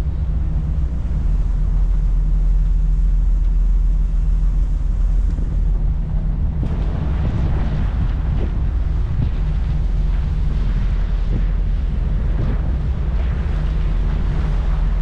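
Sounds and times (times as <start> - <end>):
low engine rumble: 0.0 - 15.0
wind on microphone: 0.0 - 15.0.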